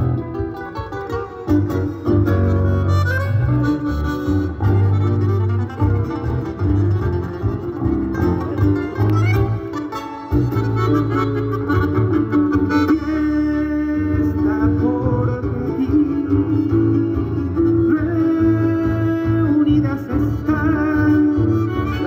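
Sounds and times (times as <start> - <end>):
acoustic guitar playing: 0.0 - 22.0
live folk band music: 0.0 - 22.0.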